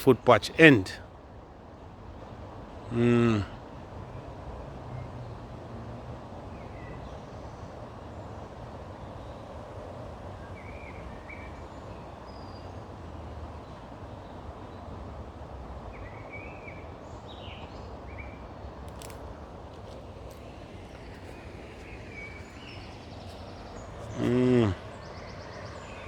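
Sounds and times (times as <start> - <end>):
birds chirping: 0.0 - 1.0, 2.8 - 3.6, 6.5 - 26.0
outdoor background hiss: 0.0 - 26.0.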